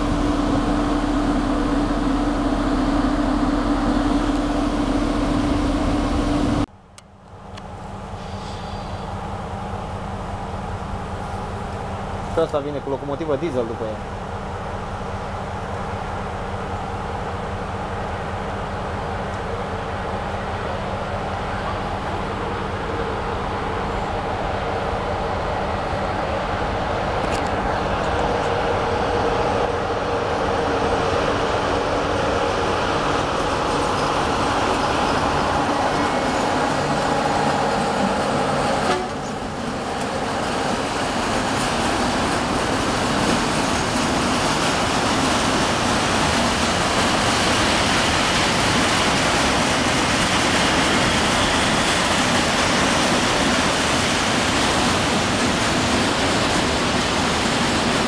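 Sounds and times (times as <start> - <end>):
locomotive hum and rumble: 0.0 - 58.0
train wheels rushing: 11.0 - 58.0.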